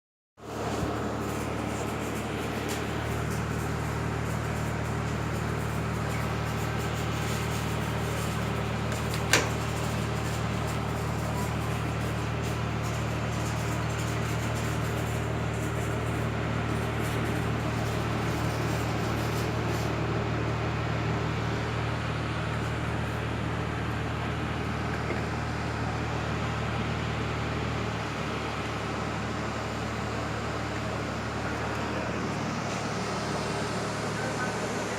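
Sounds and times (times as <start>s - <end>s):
steady machine hum: 0.4s - 34.9s.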